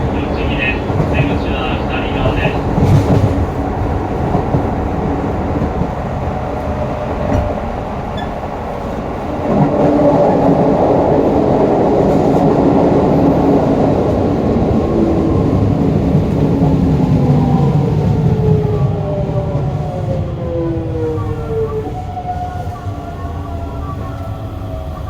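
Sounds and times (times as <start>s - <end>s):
train inverter whine: 0.0s - 25.0s
wheels rumbling on track: 0.0s - 25.0s.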